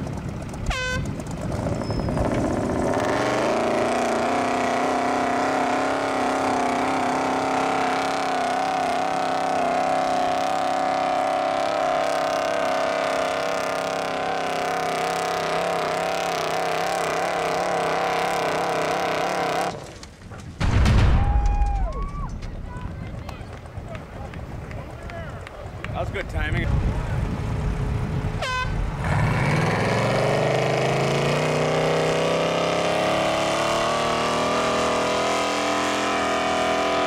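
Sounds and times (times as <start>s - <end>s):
truck engine revving under load: 0.0s - 20.5s, 26.7s - 37.0s.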